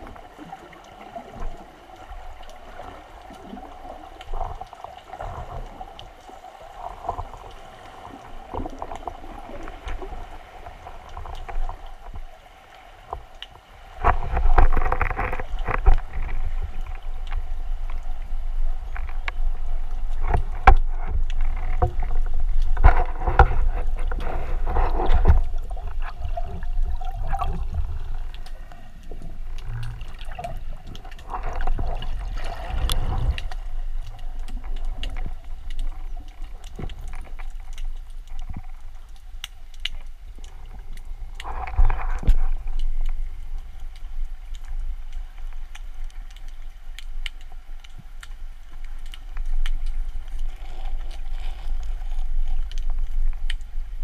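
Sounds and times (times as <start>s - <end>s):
faint underwater clicks: 0.0s - 54.0s
underwater rumble of moving water: 0.0s - 54.0s
water gurgling: 0.0s - 54.0s.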